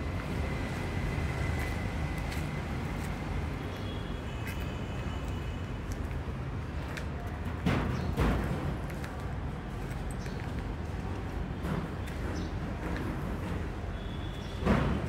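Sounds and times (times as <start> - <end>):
urban background rumble: 0.0 - 15.0.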